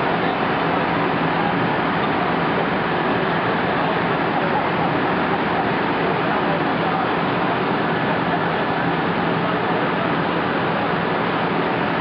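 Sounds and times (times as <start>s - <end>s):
fire engine engines and pumps: 0.0s - 12.0s.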